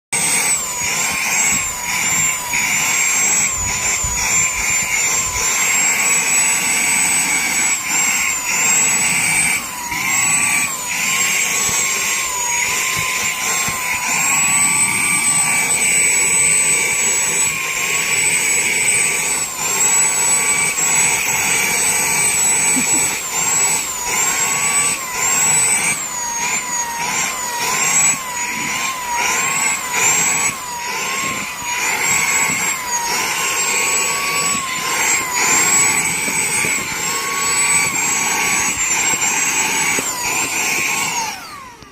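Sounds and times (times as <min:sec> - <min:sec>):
vacuum cleaner motor whine: 0:00.2 - 0:41.9.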